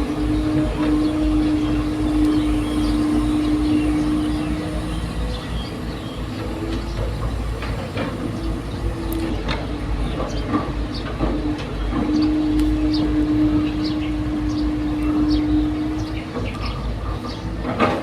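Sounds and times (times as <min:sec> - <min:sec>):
diesel engine rumble: 0:00.0 - 0:18.0
steady hum: 0:00.0 - 0:18.0.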